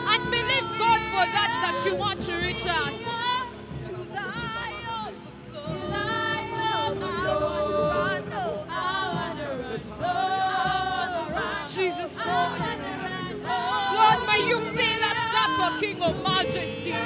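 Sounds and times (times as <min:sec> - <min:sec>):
background worship music: 0:00.0 - 0:17.0.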